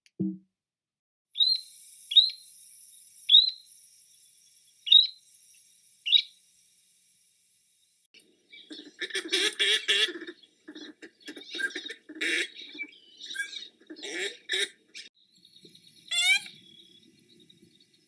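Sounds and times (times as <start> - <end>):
low rapid bird chattering: 1.4 - 6.8, 8.2 - 17.8.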